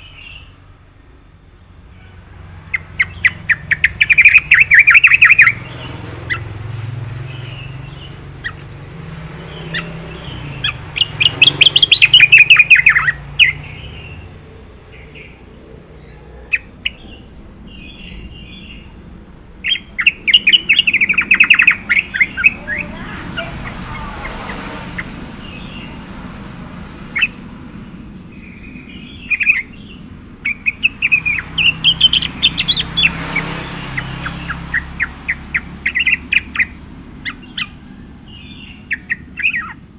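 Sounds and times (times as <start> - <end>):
bird chirping phrases: 0.0 - 39.9.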